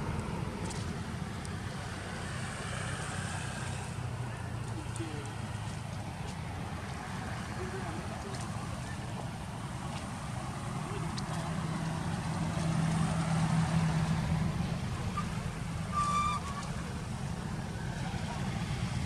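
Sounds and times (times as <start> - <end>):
road traffic rumble: 0.0 - 19.0
vehicle engine hum: 0.0 - 19.0.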